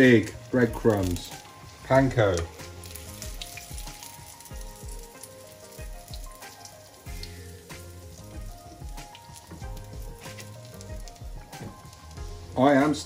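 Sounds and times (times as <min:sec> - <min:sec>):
background music with steady beat: 0:00.0 - 0:13.0
oil sizzling in a frying pan: 0:00.0 - 0:13.0.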